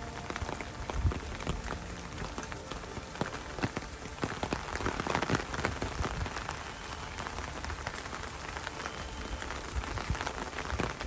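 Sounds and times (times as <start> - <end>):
raindrops ticking close: 0.0 - 11.0
steady rain falling: 0.0 - 11.0.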